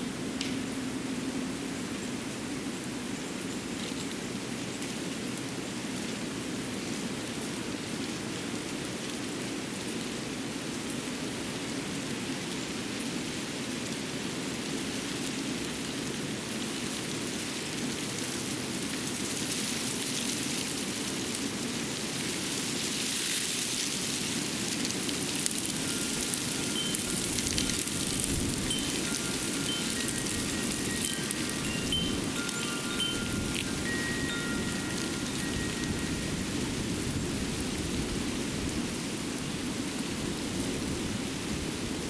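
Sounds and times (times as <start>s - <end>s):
wind in the trees: 0.0s - 42.0s.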